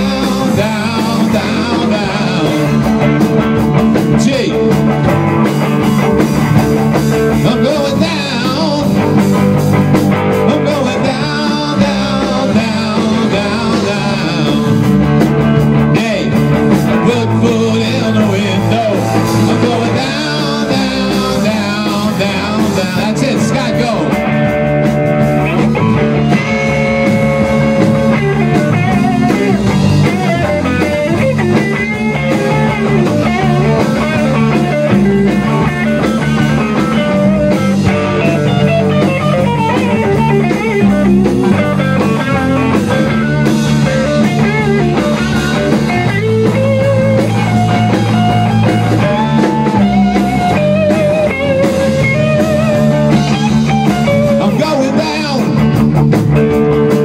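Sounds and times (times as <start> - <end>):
drum kit: 0.0 - 57.0
electric bass guitar: 0.0 - 57.0
electric guitar: 0.0 - 57.0.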